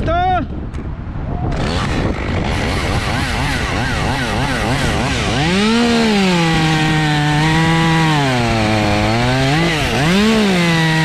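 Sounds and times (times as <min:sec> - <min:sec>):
chainsaw revving: 0:01.5 - 0:11.0.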